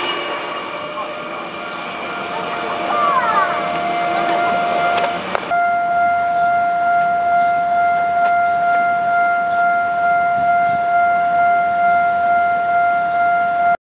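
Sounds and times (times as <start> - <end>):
level crossing alarm tone: 0.0 - 13.8.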